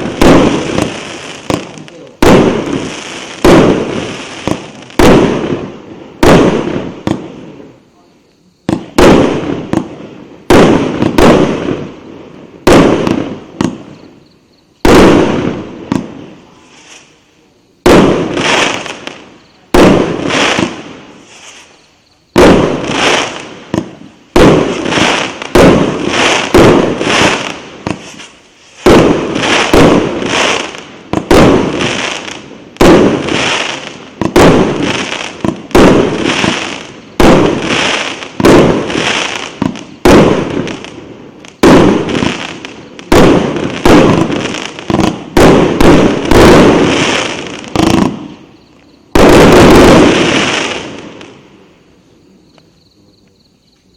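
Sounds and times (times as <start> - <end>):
fireworks bangs: 0.0 - 53.3
fireworks hiss and crackle: 0.0 - 53.9.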